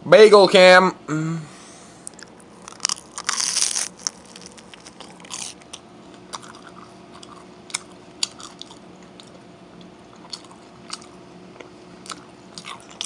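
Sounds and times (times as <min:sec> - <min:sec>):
person chewing a bagel: 0:02.0 - 0:13.0.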